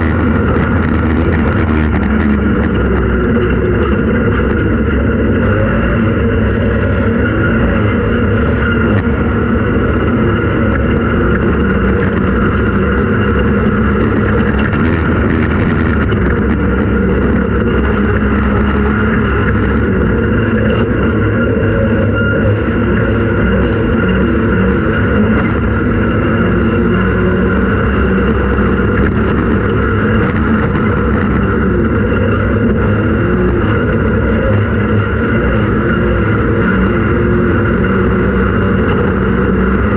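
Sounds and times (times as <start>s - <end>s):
race vehicle engine running: 0.0s - 39.9s.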